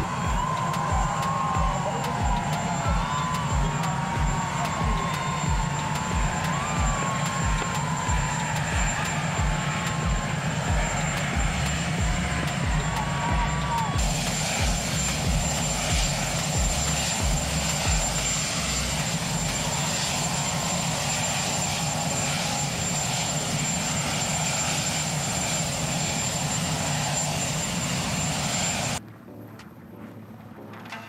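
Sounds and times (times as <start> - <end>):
airliner cabin engine roar: 0.0 - 29.0
thin high whine: 0.0 - 29.0.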